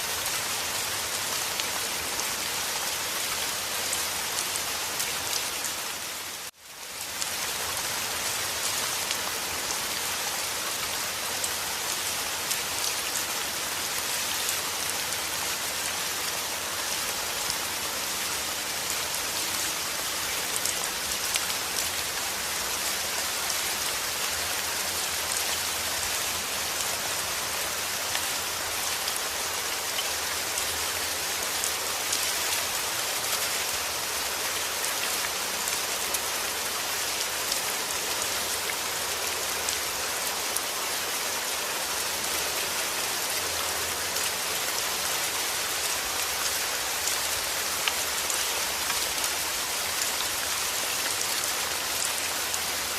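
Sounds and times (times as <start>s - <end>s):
heavy rain on a surface: 0.0s - 52.9s.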